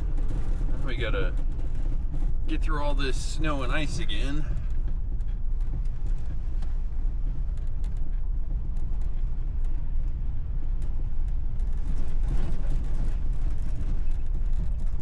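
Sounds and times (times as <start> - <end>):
engine and drivetrain rumble: 0.0 - 15.0.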